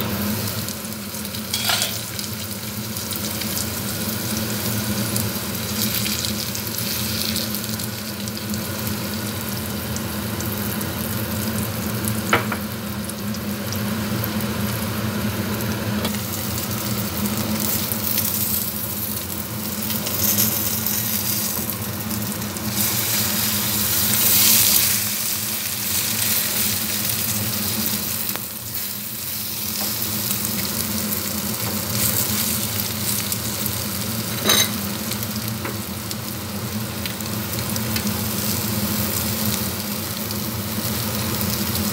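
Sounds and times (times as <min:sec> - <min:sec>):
oil sizzling in a pan: 0:00.0 - 0:41.9.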